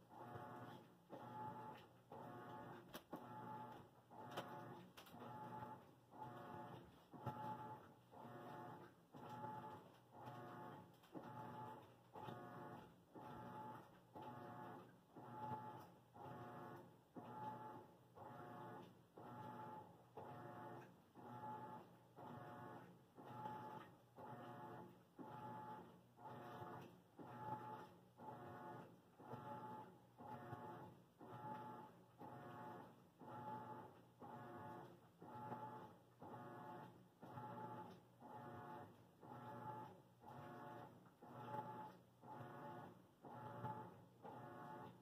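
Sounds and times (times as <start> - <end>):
laundry machine running: 0.0 - 45.0.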